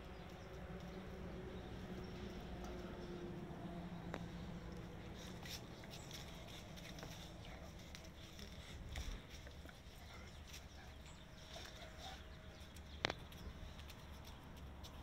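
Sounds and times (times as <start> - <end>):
dogs scuffling on concrete: 0.0 - 15.0.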